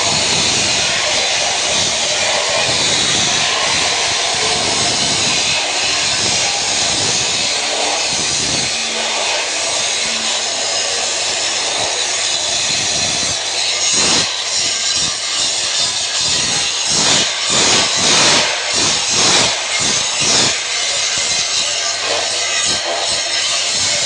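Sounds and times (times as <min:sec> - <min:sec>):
angle grinder cutting: 0:00.0 - 0:24.0.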